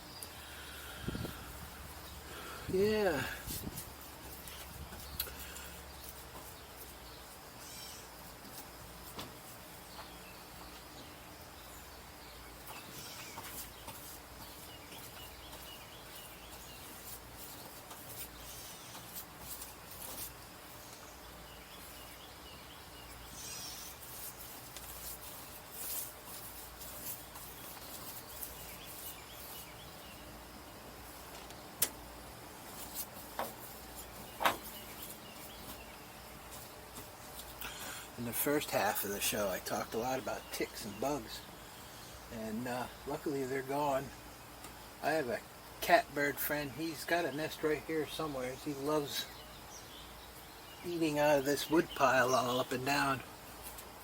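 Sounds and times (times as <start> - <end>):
birds chirping faintly: 0.0 - 54.0.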